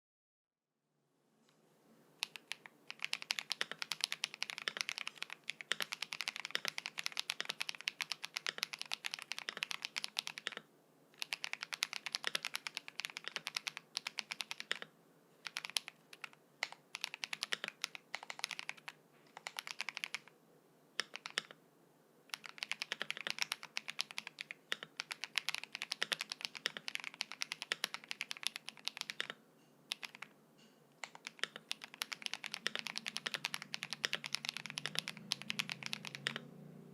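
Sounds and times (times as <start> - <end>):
fast typing on mechanical keyboard: 2.2 - 10.6, 11.2 - 20.3, 21.0 - 21.6, 22.3 - 30.3, 31.0 - 36.4.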